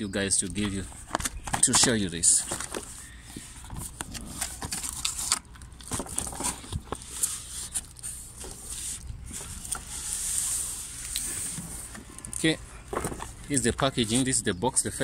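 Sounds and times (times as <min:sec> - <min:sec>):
packaging rustling and crackling: 0:00.4 - 0:14.3.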